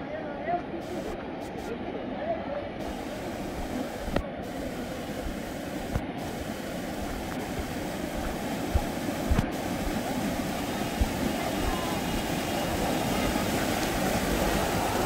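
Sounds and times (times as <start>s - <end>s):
water rushing along stone channel: 2.8s - 15.0s.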